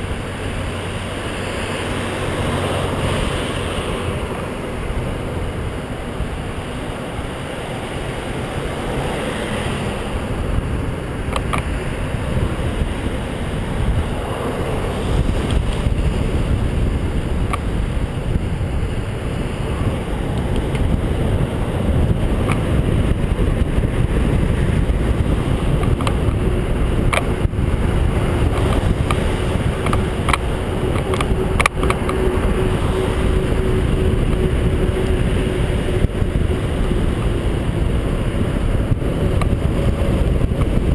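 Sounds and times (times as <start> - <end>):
traffic noise: 0.0 - 40.9
wind on microphone: 0.0 - 40.9.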